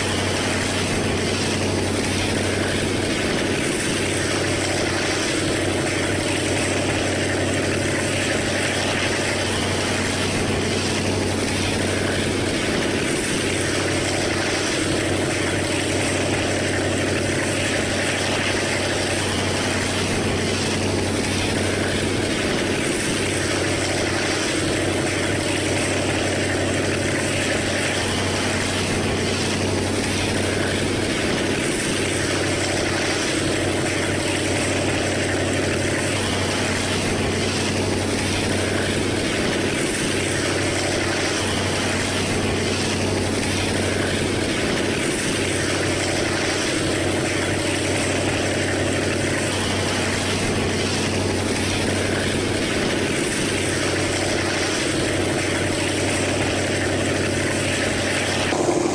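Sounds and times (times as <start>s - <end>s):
locomotive engine drone: 0.0s - 53.0s, 55.1s - 58.9s.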